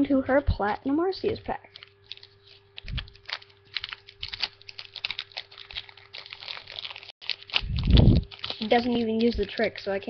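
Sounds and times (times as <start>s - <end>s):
foil wrapper crinkling: 0.6s - 10.0s.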